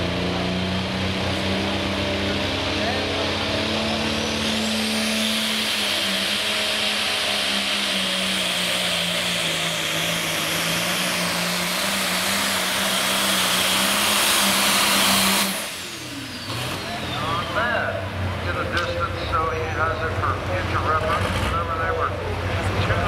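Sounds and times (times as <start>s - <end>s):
tractor engine running flat out: 0.0s - 23.0s.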